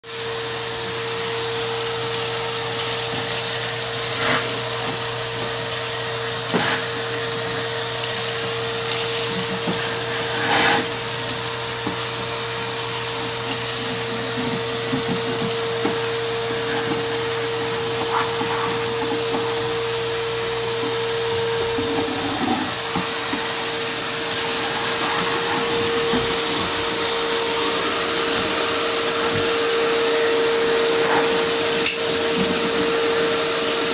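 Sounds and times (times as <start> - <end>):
shop vacuum running: 0.0 - 33.9
debris rattling in hose: 0.2 - 33.9.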